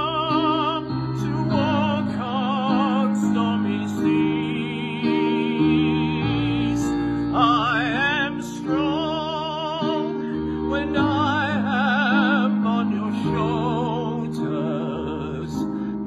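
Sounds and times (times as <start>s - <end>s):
instrumental accompaniment: 0.0s - 16.0s
man singing: 0.0s - 16.0s.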